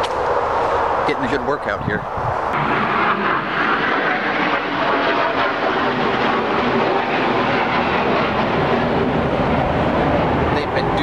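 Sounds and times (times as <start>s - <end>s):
distant engine roar: 0.0s - 11.0s.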